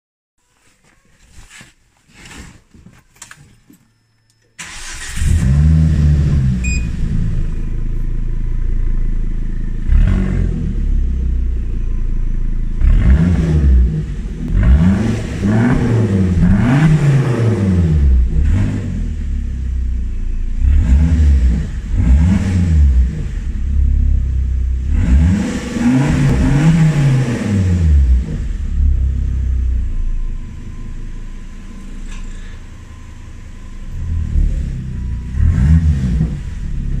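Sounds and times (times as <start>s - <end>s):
car engine idling and revving: 4.6s - 37.0s.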